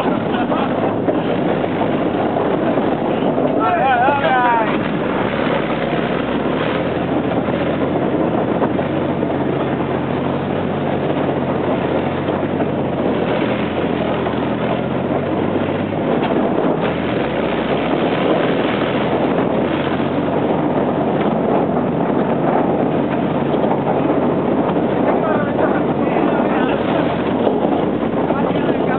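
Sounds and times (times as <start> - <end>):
tank engine running: 0.0 - 28.9
wind buffeting microphone: 0.0 - 28.9.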